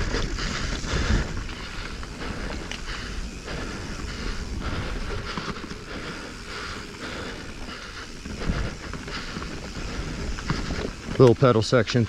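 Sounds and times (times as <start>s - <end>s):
bike chain and frame rattling: 0.0s - 12.0s
bike tyre rumble: 0.0s - 12.0s.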